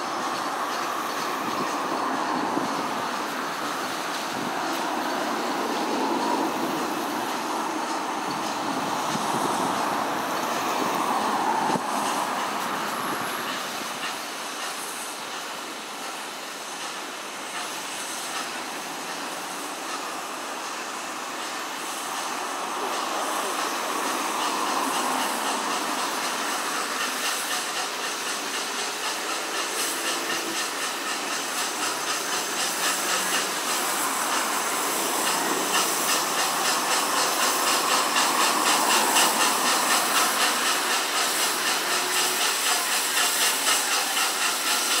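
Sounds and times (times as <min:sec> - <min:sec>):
steam locomotive hissing steam: 0:00.0 - 0:45.0.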